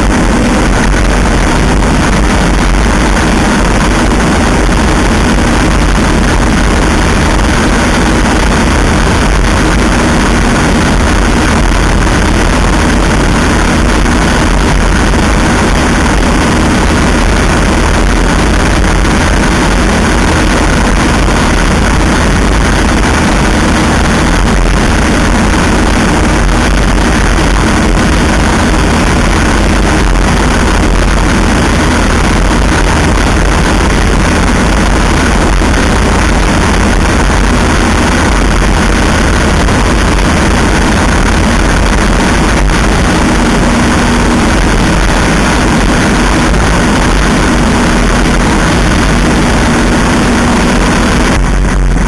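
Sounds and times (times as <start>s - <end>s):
aircraft engine running: 0.0s - 52.0s
wind rush: 0.0s - 52.0s.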